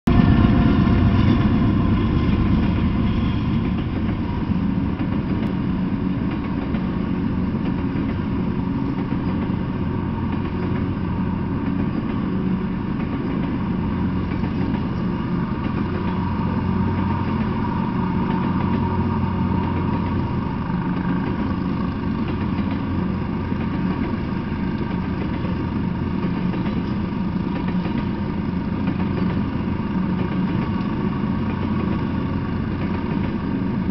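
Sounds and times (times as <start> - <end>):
diesel locomotive engine running: 0.0 - 33.9
train rumbling by: 0.0 - 33.9.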